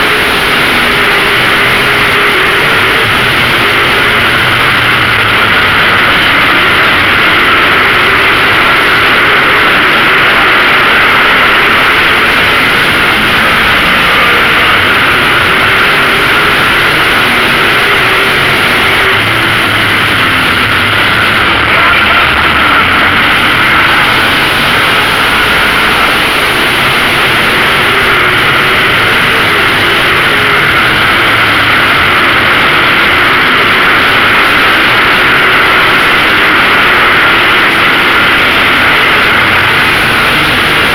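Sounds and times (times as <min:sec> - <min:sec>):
race car engines: 0:00.0 - 0:40.9.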